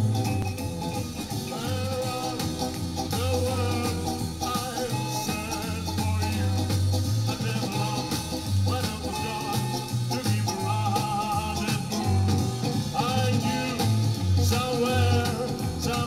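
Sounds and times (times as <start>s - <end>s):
pop-rock from record player: 0.0s - 16.0s.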